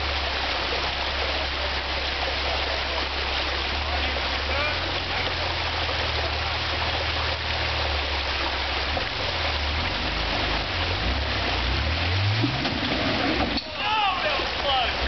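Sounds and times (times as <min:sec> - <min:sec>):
car engine at low revs: 0:00.0 - 0:15.0
rushing creek water: 0:00.0 - 0:15.0.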